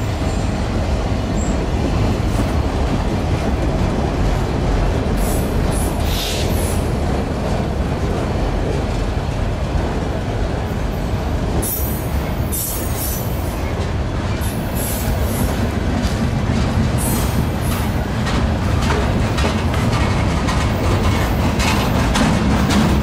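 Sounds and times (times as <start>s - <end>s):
wheels clicking over rail joints: 0.0s - 23.0s.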